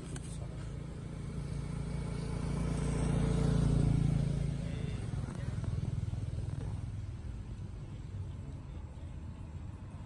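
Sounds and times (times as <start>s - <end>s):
vehicle engine passing by: 0.0s - 10.0s.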